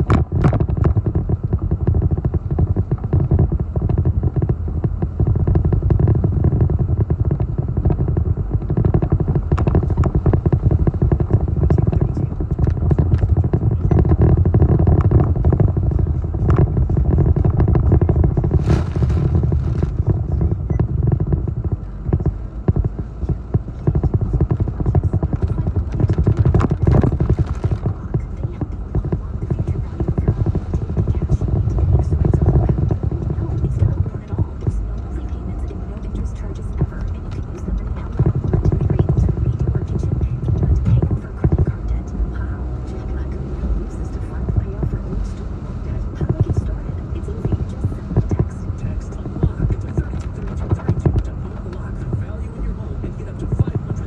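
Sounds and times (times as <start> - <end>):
gusty wind buffeting microphone: 0.0 - 54.0
sharp clicks and crackles: 0.0 - 54.0.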